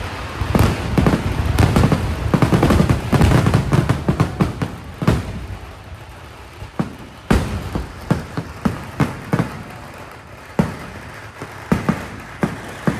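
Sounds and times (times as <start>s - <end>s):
fireworks bangs: 0.0s - 12.9s.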